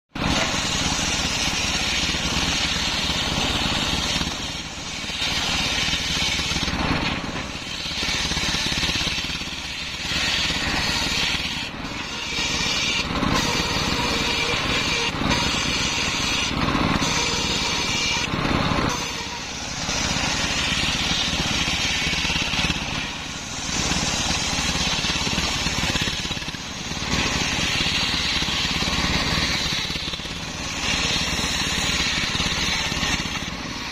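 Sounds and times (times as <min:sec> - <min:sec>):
stationary engine running: 0:00.1 - 0:33.9
circular saw ripping logs: 0:00.2 - 0:33.9.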